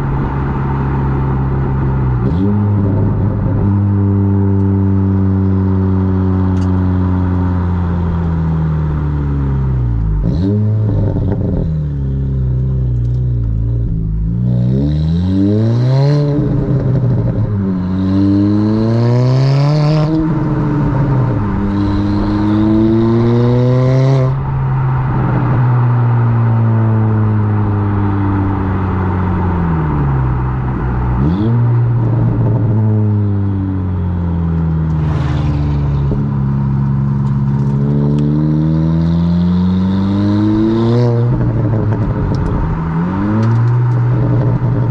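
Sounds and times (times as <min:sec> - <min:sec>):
car exhaust while driving: 0:00.0 - 0:44.9.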